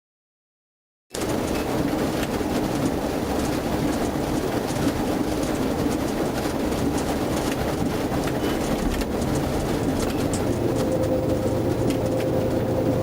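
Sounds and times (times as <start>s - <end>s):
car driving on wet road: 1.2s - 13.0s
rain: 1.2s - 13.0s.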